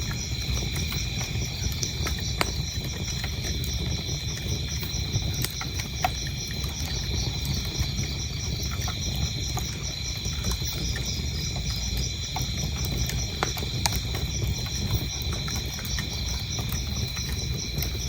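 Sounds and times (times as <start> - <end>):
crickets chirping: 0.0 - 18.0
wood fire crackling: 0.0 - 18.0.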